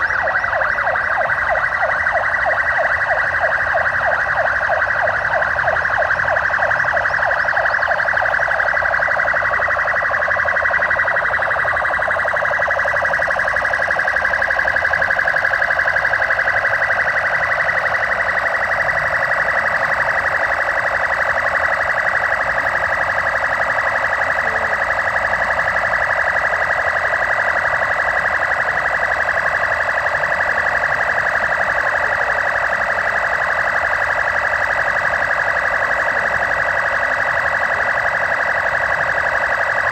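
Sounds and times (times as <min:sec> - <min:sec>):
police sirens wailing: 0:00.0 - 0:39.9.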